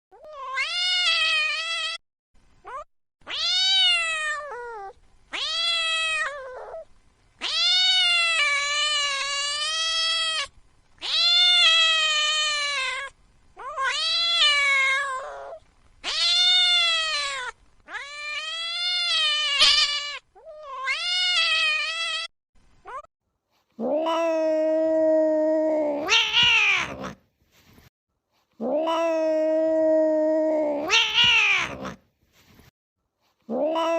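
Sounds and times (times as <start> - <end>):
cat yowling: 0.2 - 2.0, 2.7 - 6.8, 7.4 - 22.3, 23.8 - 27.2, 28.6 - 32.0, 33.5 - 33.9.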